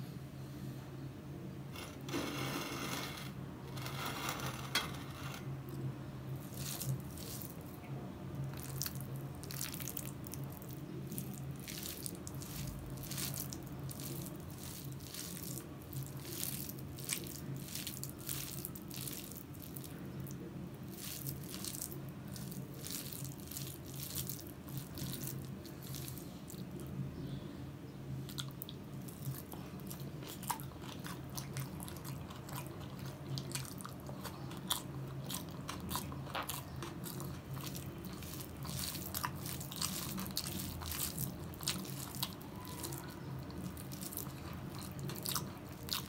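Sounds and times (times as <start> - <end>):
steady low hum: 0.0 - 46.0
wet squelching of food: 6.3 - 26.9, 28.2 - 46.0.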